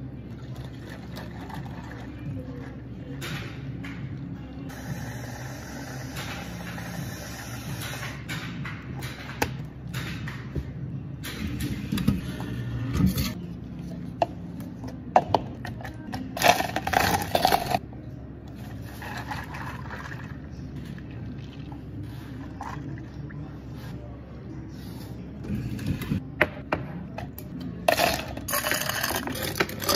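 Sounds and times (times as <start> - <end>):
low hum of equipment: 0.0 - 29.9.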